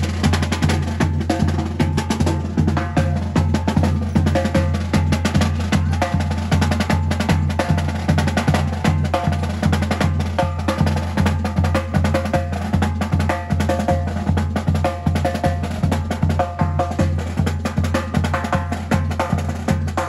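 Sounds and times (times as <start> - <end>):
deep drum tones: 0.0 - 20.0.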